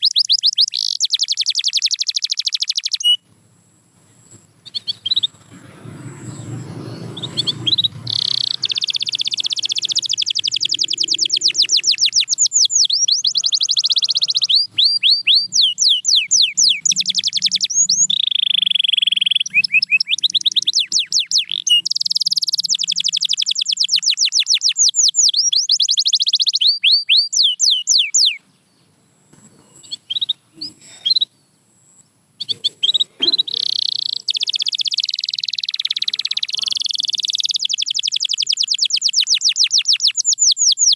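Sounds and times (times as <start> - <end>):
scattered bird chirps: 0.0 - 3.2, 4.1 - 28.5, 29.4 - 40.9
canary singing trills: 0.0 - 3.3, 4.1 - 28.9, 29.5 - 40.9.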